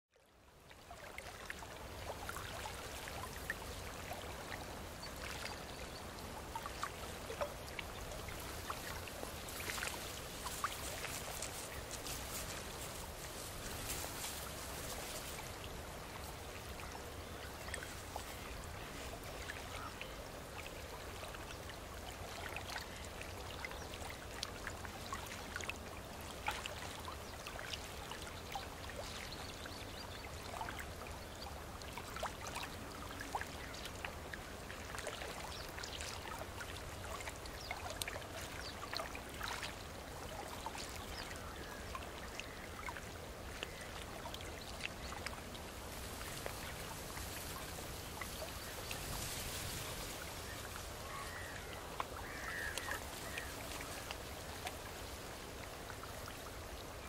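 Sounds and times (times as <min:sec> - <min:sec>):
water trickling and dripping: 0:00.1 - 0:57.0.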